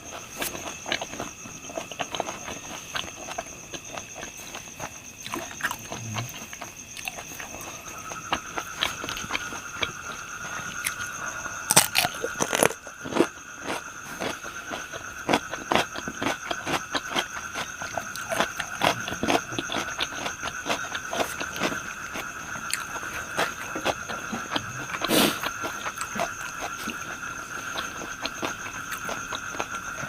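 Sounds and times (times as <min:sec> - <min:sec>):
crispy food crunching: 0:00.1 - 0:30.0.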